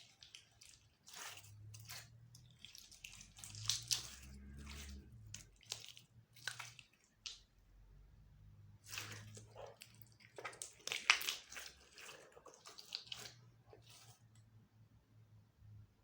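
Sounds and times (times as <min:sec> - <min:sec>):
slime squelching and popping: 0:00.0 - 0:07.7, 0:08.8 - 0:14.2.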